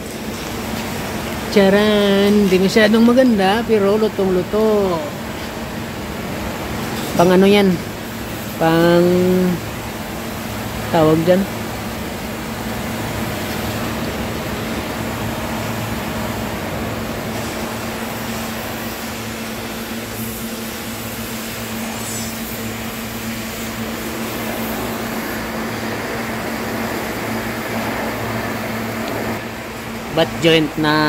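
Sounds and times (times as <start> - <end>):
machinery hum with fan rushing: 0.0 - 31.0.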